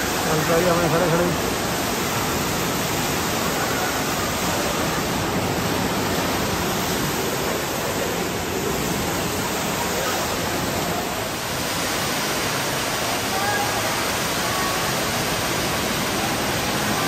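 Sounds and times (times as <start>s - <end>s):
water falling into pool: 0.0s - 17.0s.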